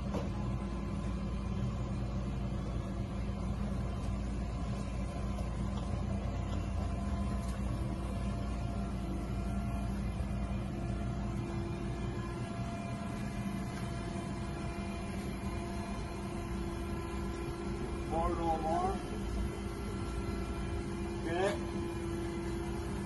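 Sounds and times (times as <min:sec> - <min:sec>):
forklift engine running: 0:00.0 - 0:23.0.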